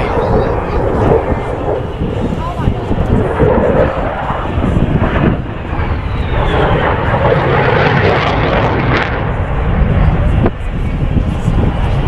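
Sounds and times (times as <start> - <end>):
jet aircraft roar: 0.0 - 12.0.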